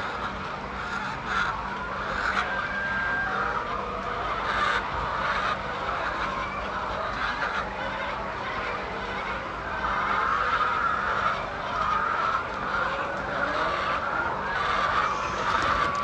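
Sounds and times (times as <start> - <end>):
chickens clucking and squawking: 0.0 - 16.0
faint steady hum: 0.0 - 16.0.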